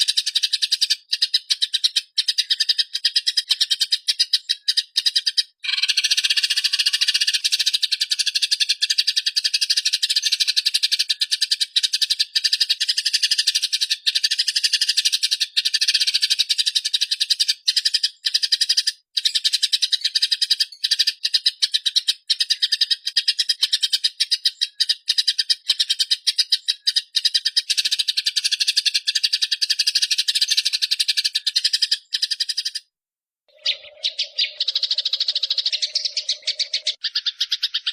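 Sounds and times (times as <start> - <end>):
sparrows chattering: 0.0 - 32.9, 33.5 - 37.9.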